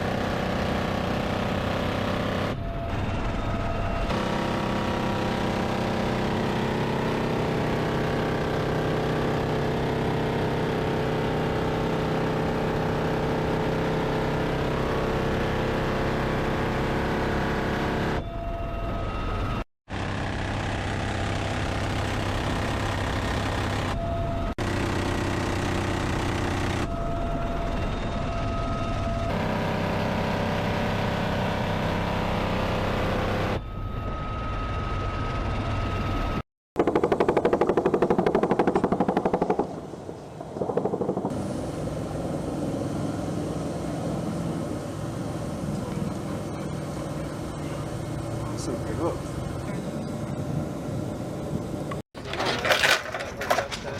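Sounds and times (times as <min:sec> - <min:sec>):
helicopter engines and rotor drone: 0:00.0 - 0:53.9.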